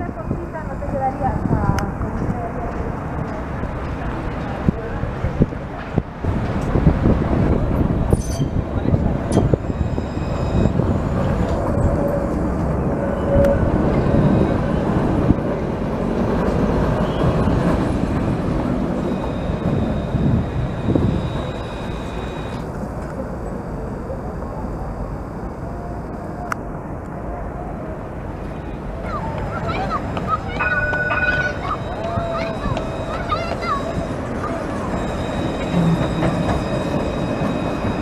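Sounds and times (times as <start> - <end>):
street traffic: 0.0 - 38.0
tram rumbling on rails: 0.0 - 38.0.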